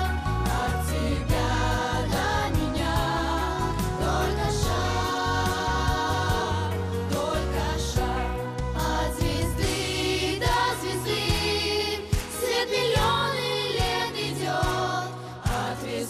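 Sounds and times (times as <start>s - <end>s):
bass: 0.0s - 16.0s
voices singing: 0.0s - 16.0s.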